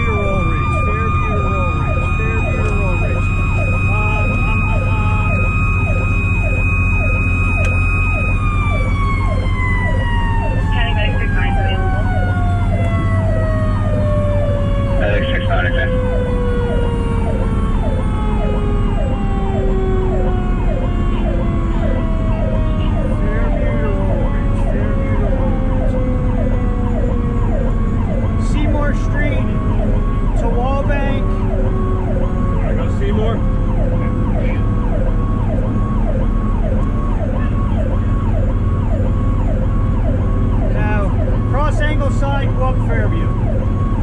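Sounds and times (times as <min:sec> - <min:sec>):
fire truck electronic siren: 0:00.0 - 0:44.0
mechanical siren wailing: 0:00.0 - 0:44.0
truck engine and road rumble: 0:00.0 - 0:44.0.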